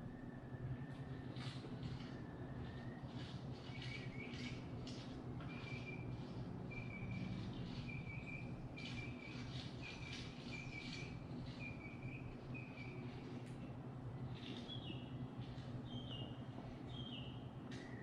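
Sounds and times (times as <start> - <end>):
faint low hum: 0.0 - 18.0
small bird chirping: 1.9 - 18.0.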